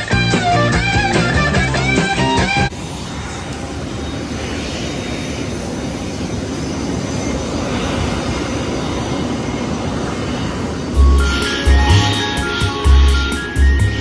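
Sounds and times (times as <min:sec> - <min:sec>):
aircraft engine running: 0:00.0 - 0:14.0.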